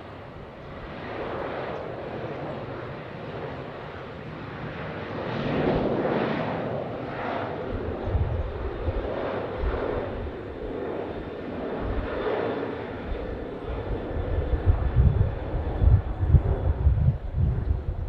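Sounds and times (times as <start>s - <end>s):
jet airliner engines roaring: 0.0s - 18.0s.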